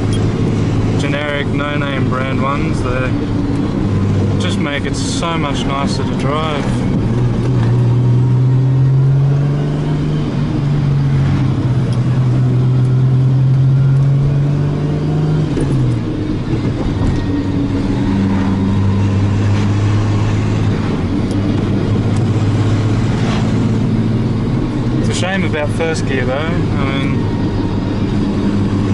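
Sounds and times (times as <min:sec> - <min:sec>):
car engine cruising inside cabin: 0:00.0 - 0:28.9.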